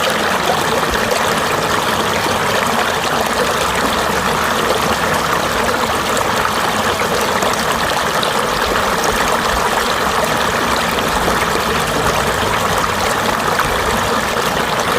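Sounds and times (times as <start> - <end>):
stream flowing: 0.0 - 14.9.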